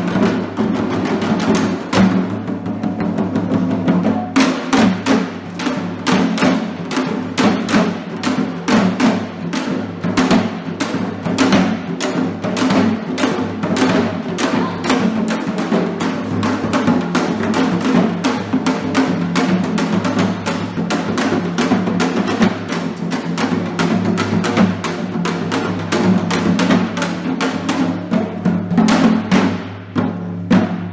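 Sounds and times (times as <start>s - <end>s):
fast dense drumming: 0.0s - 30.9s.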